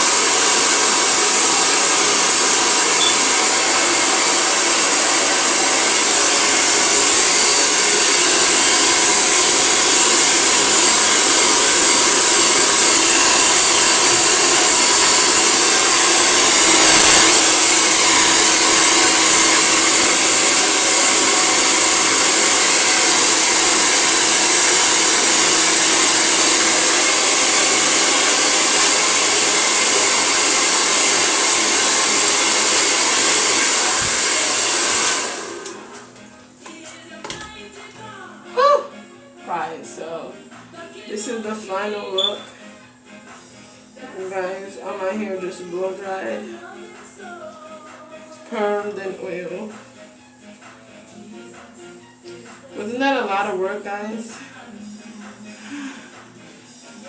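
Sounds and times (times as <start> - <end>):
hair dryer blowing: 0.0 - 37.5, 41.1 - 57.0.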